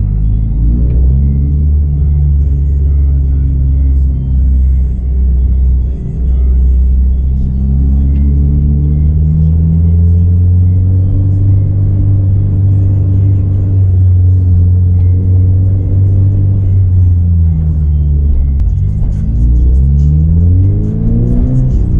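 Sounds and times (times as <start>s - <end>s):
car engine deep drone: 0.0s - 21.9s.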